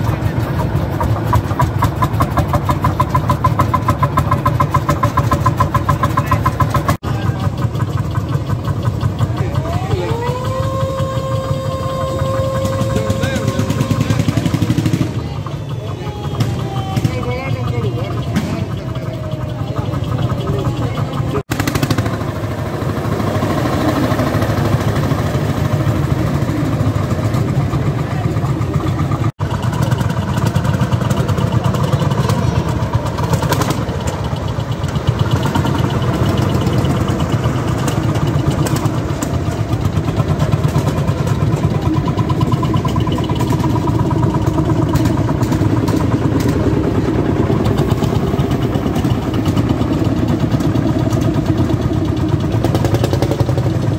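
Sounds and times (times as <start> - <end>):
tractor engines running slowly: 0.0 - 53.9.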